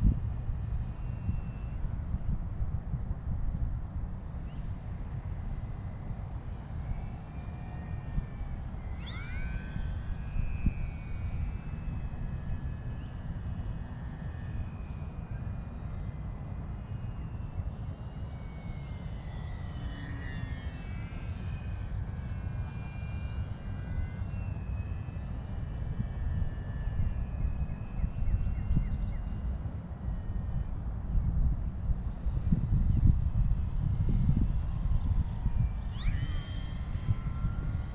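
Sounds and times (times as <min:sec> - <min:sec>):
model airplane motor whining: 0:00.0 - 0:37.9
wind noise on microphone: 0:00.0 - 0:37.9.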